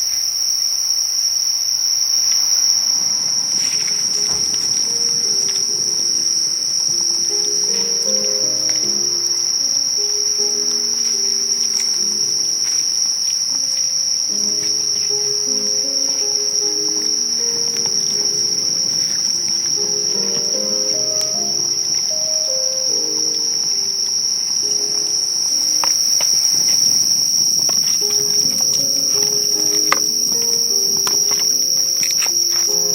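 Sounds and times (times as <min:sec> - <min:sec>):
insects trilling: 0:00.0 - 0:32.9
soft background music: 0:03.6 - 0:32.9.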